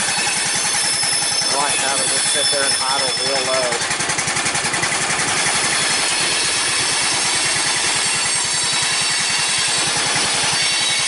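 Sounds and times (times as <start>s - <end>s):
small gasoline engine idling: 0.0s - 11.0s.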